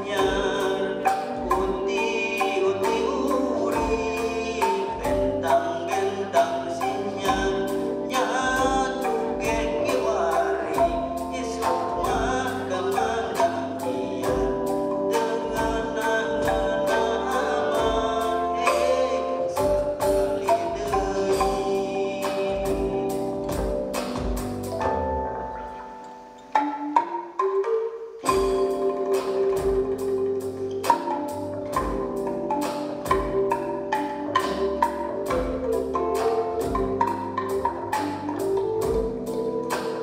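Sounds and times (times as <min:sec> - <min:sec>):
steady drum beat: 0:00.0 - 0:25.7, 0:28.3 - 0:40.0
person singing: 0:00.0 - 0:25.9, 0:28.2 - 0:40.0
bass guitar: 0:00.0 - 0:26.0, 0:28.3 - 0:40.0
bamboo tubes struck with mallets: 0:00.0 - 0:40.0.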